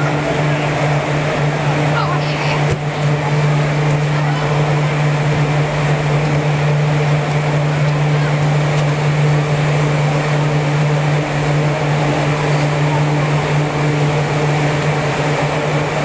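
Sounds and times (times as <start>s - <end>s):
blowers droning: 0.0s - 16.0s.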